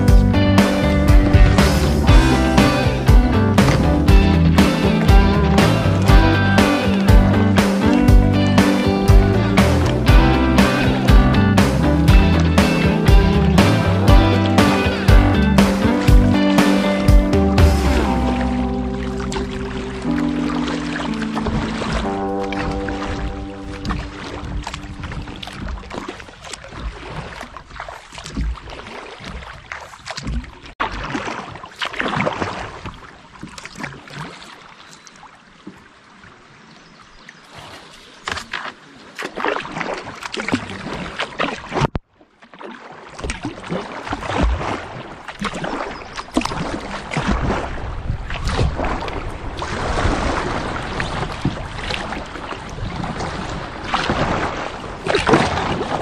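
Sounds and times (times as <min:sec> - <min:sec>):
paddle strokes splashing: 0:00.0 - 0:56.0
water rippling around hull: 0:00.0 - 0:56.0.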